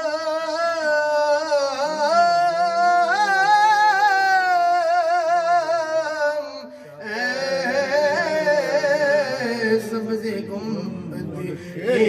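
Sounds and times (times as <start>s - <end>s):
person chanting unaccompanied: 0.0s - 12.0s.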